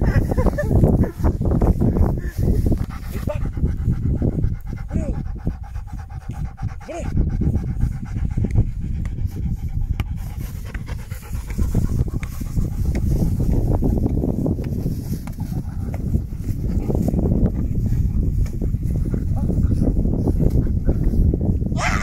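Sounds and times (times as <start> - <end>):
dog panting: 0.0 - 21.4.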